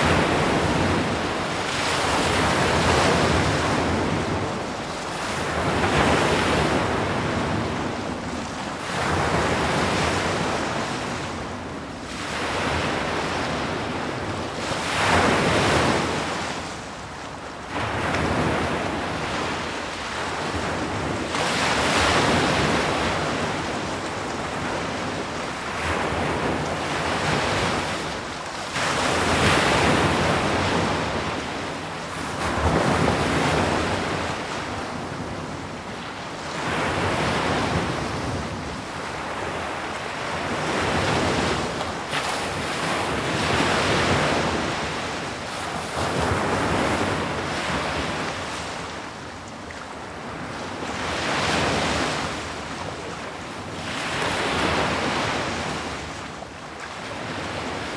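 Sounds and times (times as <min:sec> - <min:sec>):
ocean waves breaking on shore: 0:00.0 - 0:57.9
wind: 0:00.0 - 0:57.9.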